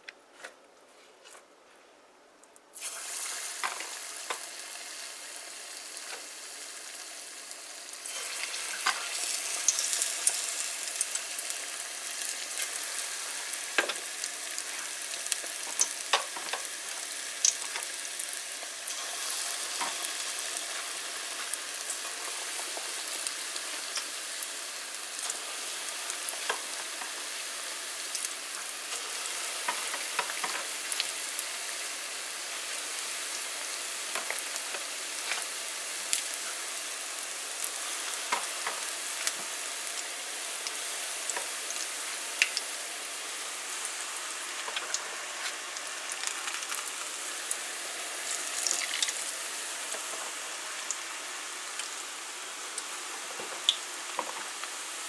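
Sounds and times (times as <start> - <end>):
deep-frying sizzle with pops: 2.8 - 55.0.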